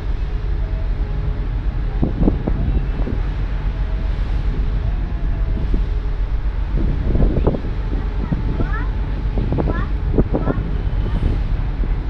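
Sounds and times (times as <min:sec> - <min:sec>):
low rumble of ship: 0:00.0 - 0:12.0
wind buffeting microphone: 0:00.0 - 0:12.0.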